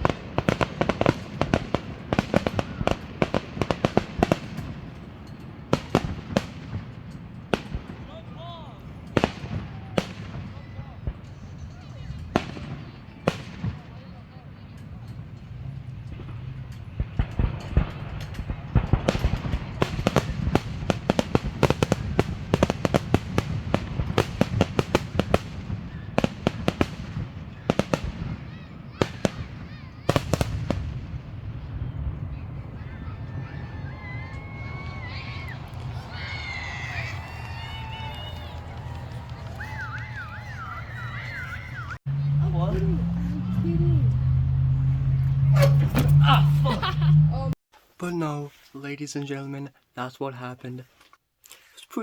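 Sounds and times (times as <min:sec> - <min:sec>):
fireworks bangs and pops: 0:00.0 - 0:42.0.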